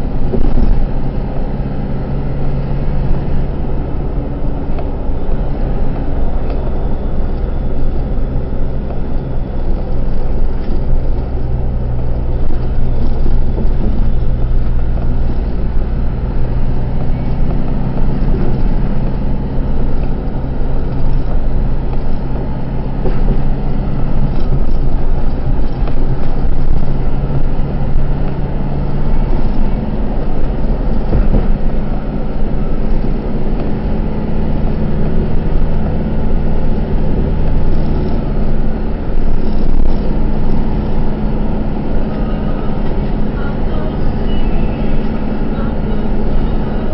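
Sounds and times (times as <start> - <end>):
road noise: 0.0 - 46.9
truck engine drone: 0.0 - 46.9.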